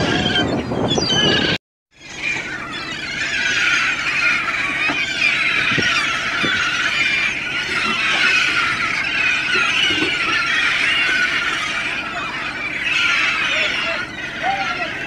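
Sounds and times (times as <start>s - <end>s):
flock of gulls calling: 0.0s - 15.0s.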